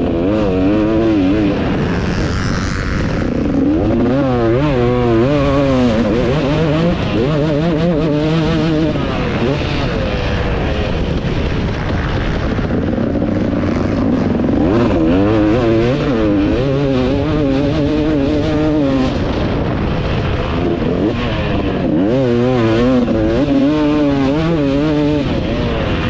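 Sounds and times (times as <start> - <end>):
motocross engine revving: 0.0 - 26.0
wind noise on microphone: 0.0 - 26.0.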